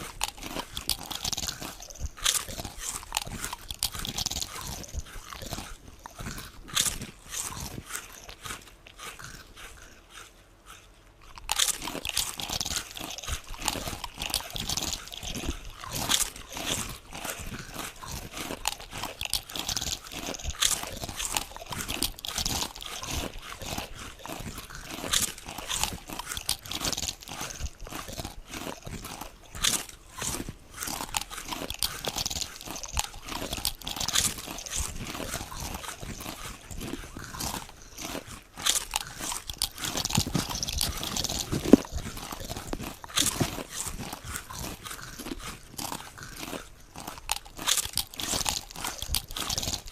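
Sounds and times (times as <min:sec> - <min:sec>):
potato chips crunching: 0:00.0 - 0:49.9.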